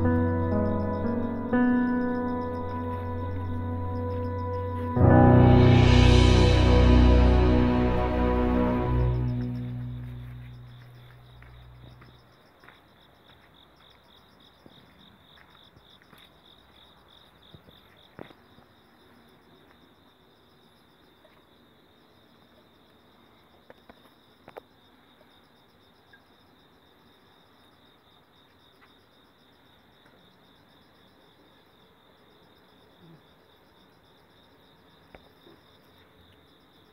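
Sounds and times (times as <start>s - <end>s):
insects chirping: 0.0s - 36.9s.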